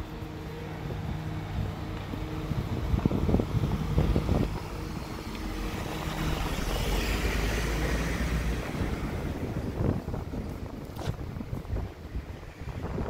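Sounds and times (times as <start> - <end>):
van driving over cobblestones: 0.0 - 13.0.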